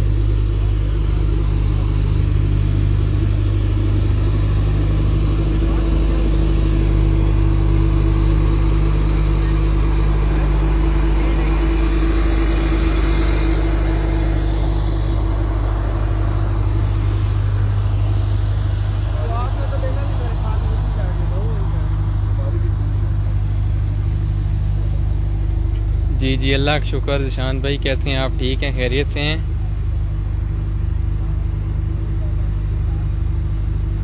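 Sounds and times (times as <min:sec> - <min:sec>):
low engine drone: 0:00.0 - 0:34.0.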